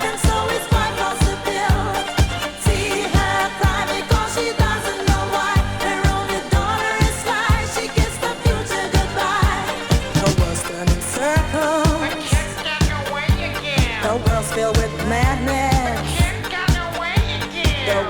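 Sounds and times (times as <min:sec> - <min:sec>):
disco song: 0:00.0 - 0:18.0
four-on-the-floor kick drum: 0:00.0 - 0:18.0
person singing: 0:00.0 - 0:18.0.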